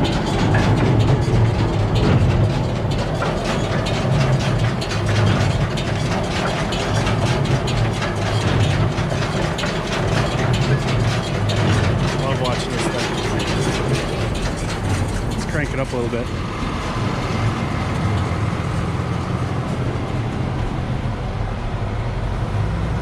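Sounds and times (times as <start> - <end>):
baler clattering chains and gears: 0.0 - 20.1.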